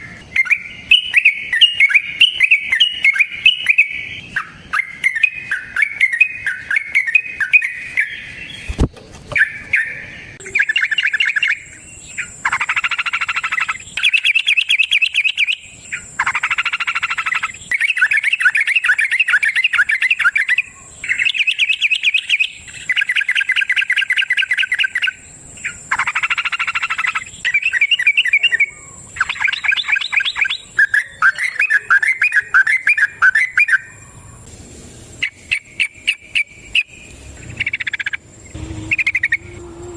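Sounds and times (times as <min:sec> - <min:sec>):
bird singing trilled chattering song: 0:00.0 - 0:34.4, 0:35.2 - 0:39.9.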